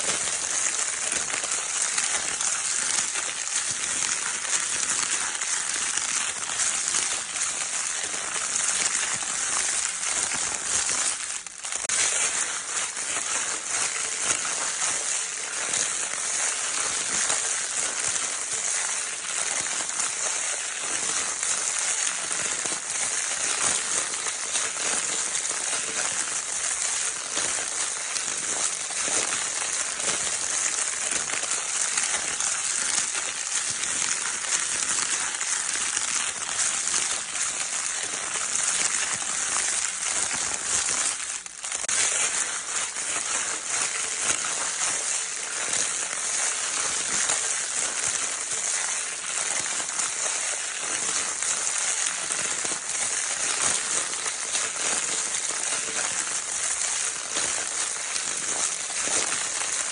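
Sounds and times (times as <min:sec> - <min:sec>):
crinkle paper crackling rustle: 0:00.0 - 0:59.9.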